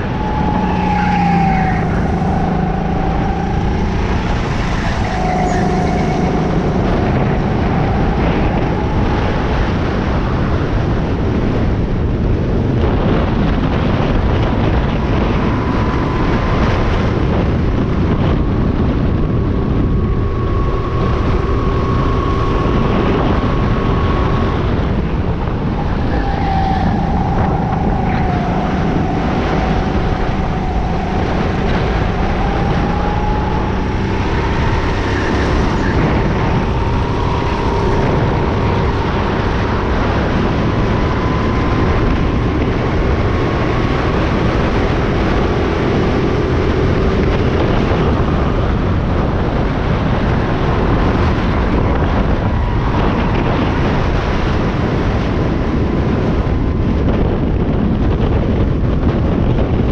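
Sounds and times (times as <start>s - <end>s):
go-kart drive whine: 0.0s - 59.9s
wind rushing over microphone: 0.0s - 59.9s.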